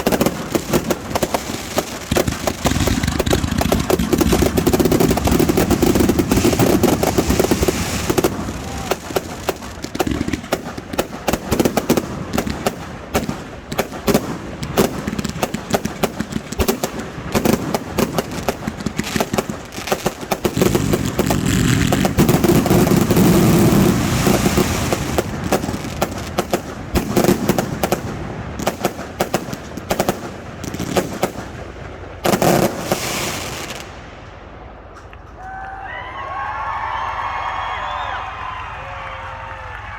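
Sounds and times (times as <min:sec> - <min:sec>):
heavy fireworks booms: 0:00.0 - 0:35.0
fireworks reports and crackle: 0:00.0 - 0:35.5.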